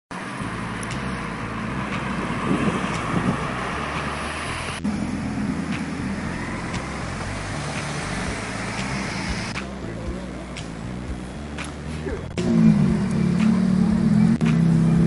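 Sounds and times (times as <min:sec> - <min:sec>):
sports car pulling away: 0:00.2 - 0:09.9, 0:12.2 - 0:15.0
sports car driving by: 0:00.2 - 0:10.4, 0:12.2 - 0:15.0.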